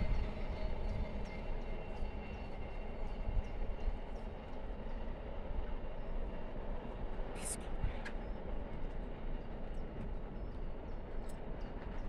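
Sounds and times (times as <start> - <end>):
distant freight train rumble: 0.0 - 12.0.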